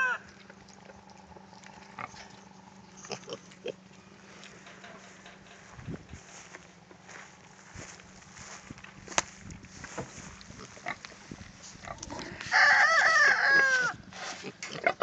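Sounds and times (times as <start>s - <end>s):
piglets rooting and shuffling: 0.0s - 15.0s.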